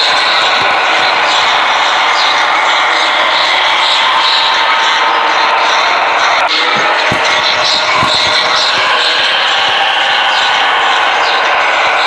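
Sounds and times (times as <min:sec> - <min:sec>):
loud dense steady noise: 0:00.0 - 0:12.0.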